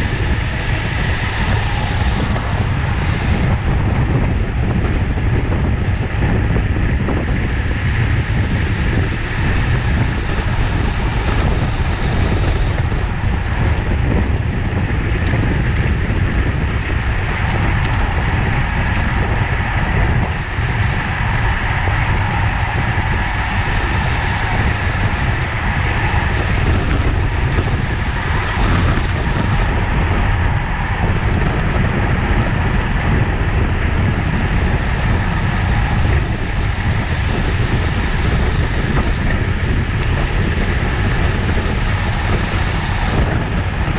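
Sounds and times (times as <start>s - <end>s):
wind noise on microphone: 0.0s - 43.9s.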